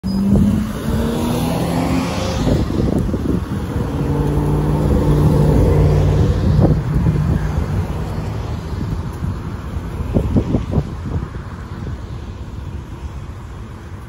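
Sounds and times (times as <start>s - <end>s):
bus engine under load: 0.0s - 14.0s
road rumble: 0.0s - 14.0s.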